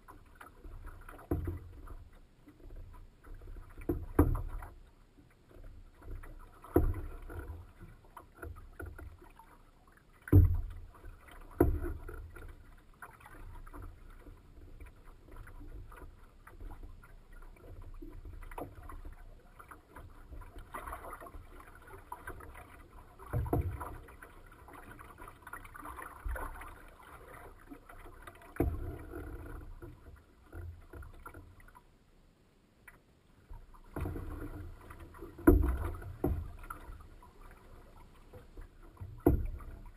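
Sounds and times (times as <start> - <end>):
waves thumping boat hull: 0.0 - 31.8, 32.9 - 39.9
water lapping against boat hull: 0.0 - 39.9.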